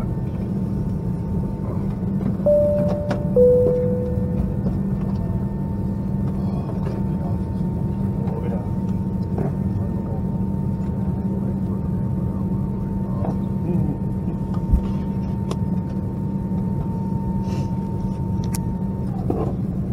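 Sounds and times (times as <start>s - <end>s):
aircraft cabin hum: 0.1s - 19.9s.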